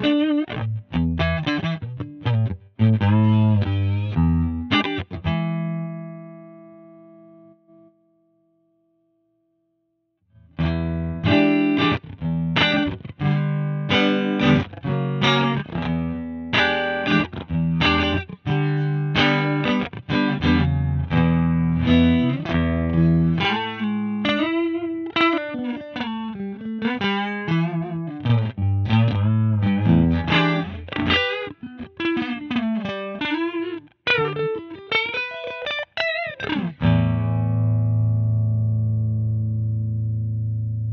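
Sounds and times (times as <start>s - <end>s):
electric guitar rhythm part: 0.0s - 8.0s, 10.3s - 40.9s.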